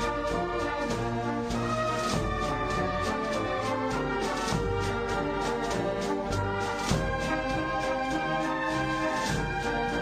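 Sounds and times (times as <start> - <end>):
brass band march: 0.0 - 10.0
steady drum beat: 0.0 - 10.0.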